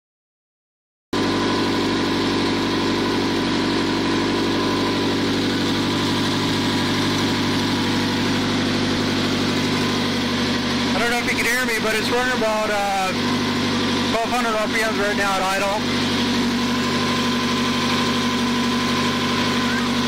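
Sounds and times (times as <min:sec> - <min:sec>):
car engine idling: 0:01.2 - 0:20.0.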